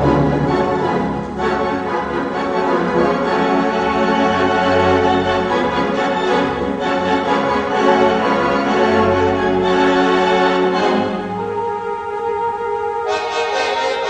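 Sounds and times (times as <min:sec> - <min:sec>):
orchestral background music: 0:00.0 - 0:14.0
organ playing sustained chords: 0:00.0 - 0:14.0.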